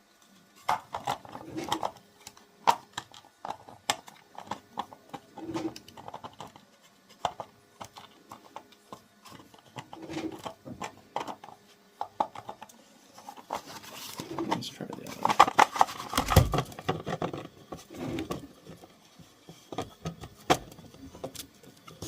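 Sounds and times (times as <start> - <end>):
hard plastic parts clicking: 0.6 - 18.8.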